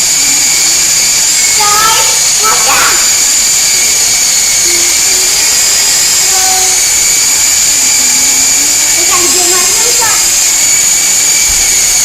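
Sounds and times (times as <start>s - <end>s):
toy helicopter whine: 0.0s - 12.0s.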